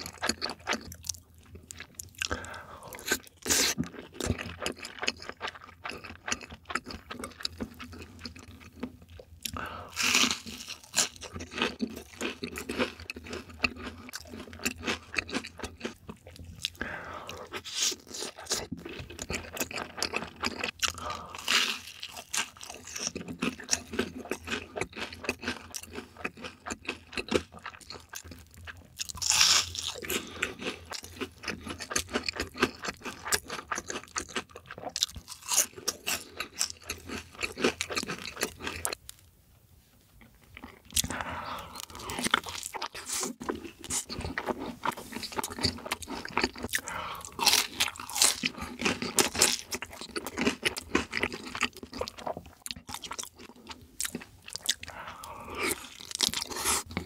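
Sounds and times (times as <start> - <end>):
crunching and chewing fried food: 0.0 - 39.3, 40.1 - 57.0.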